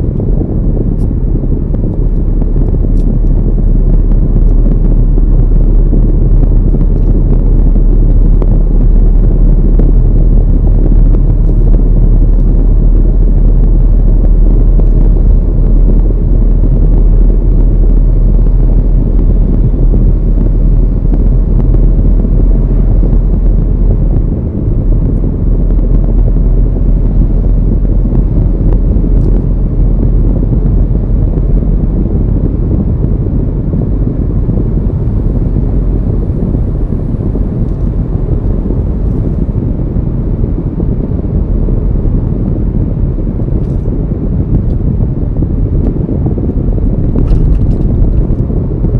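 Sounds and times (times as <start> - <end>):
road and engine rumble: 0.0 - 48.9.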